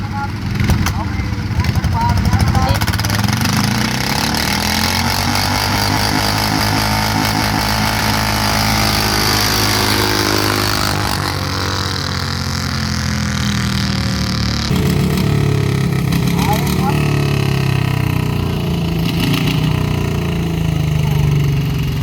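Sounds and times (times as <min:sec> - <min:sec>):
tractor engines running hard: 0:00.0 - 0:22.0.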